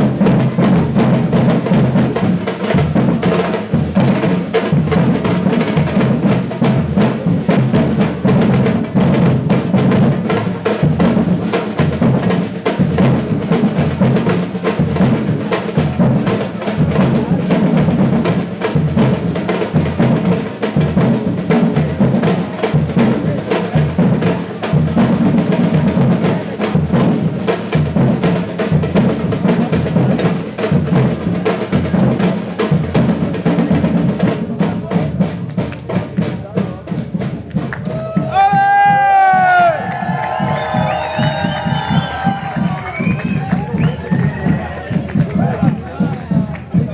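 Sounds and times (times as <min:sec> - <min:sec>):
deep drum beat: 0:00.0 - 0:46.9
percussion ensemble playing: 0:00.0 - 0:46.9.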